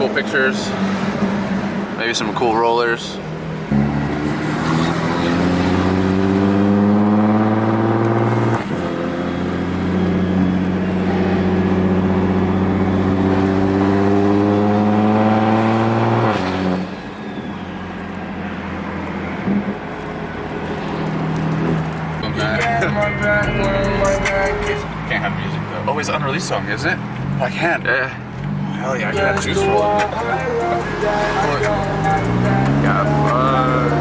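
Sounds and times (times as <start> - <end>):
car engine accelerating: 3.2 - 34.0.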